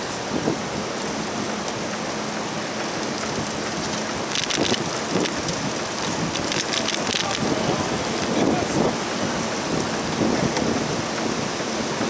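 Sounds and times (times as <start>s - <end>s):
bicycle tyre and road noise: 0.0s - 12.0s
wind rushing over microphone: 0.0s - 12.0s.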